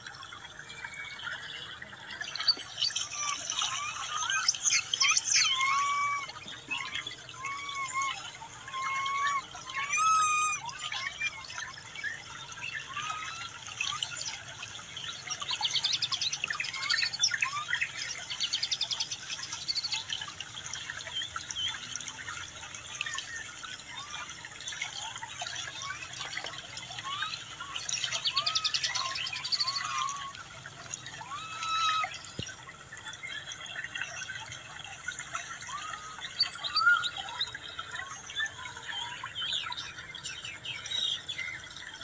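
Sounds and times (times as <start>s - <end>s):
birds chirping and trilling: 0.1s - 42.0s.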